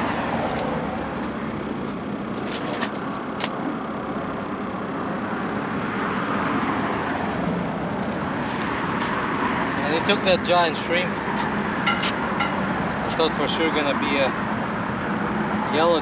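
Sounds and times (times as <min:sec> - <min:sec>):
road traffic hiss: 0:00.0 - 0:16.0.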